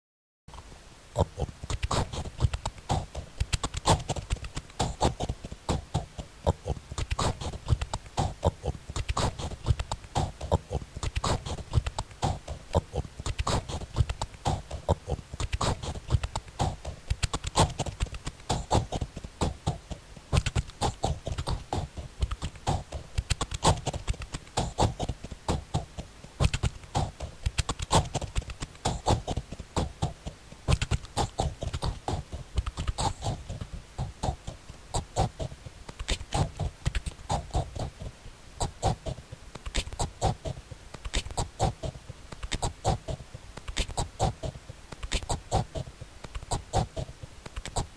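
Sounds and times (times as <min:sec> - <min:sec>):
chopped distorted voice fragments: 0:01.2 - 0:47.9.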